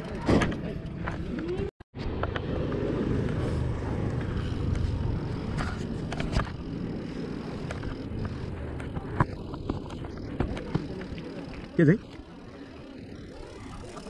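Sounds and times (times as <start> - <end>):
bike rattling over bumps: 0.0 - 14.0.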